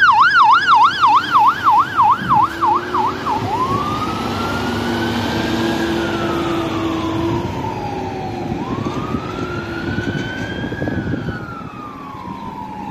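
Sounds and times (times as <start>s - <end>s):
fire truck siren wailing: 0.0s - 12.9s
truck engine and tyre noise: 0.0s - 12.9s.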